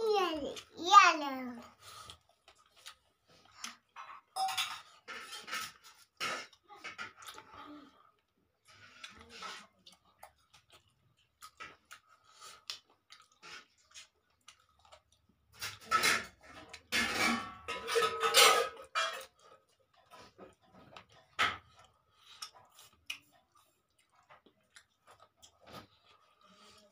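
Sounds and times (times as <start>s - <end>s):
chewing: 1.6s - 16.9s, 19.1s - 26.9s.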